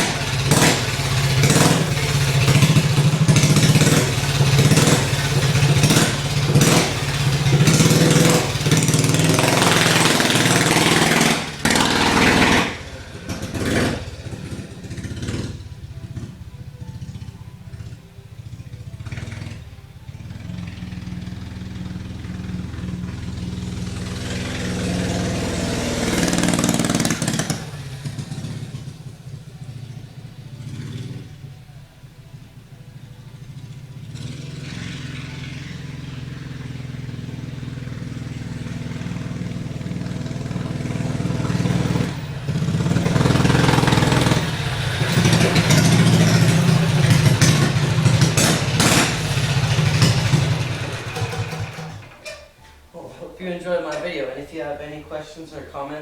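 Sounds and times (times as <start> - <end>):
minibike engine running: 0.0 - 52.6.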